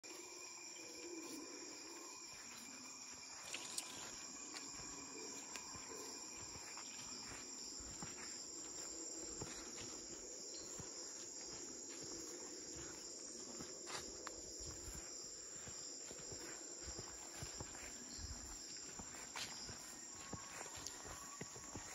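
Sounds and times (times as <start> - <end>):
insects calling: 0.0 - 21.9
soft footsteps: 0.0 - 21.9.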